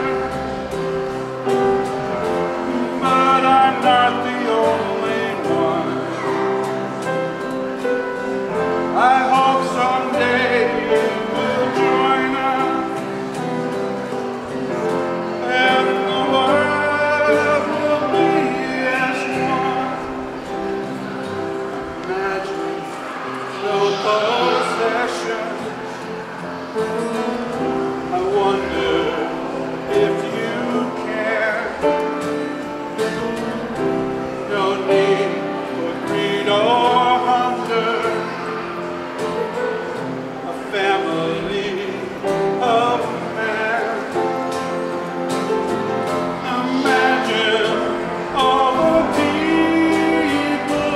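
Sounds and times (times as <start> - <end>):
instrumental accompaniment: 0.0 - 50.9
voices singing: 0.0 - 50.9.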